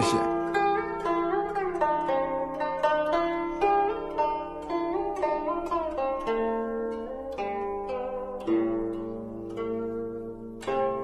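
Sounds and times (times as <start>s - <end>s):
plucked zither melody: 0.0s - 11.0s.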